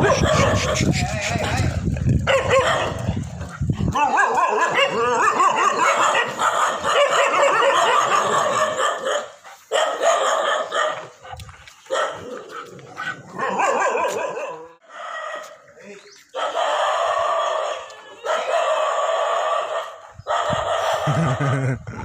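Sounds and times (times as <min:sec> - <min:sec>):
dogs barking and yelping: 0:00.0 - 0:21.8.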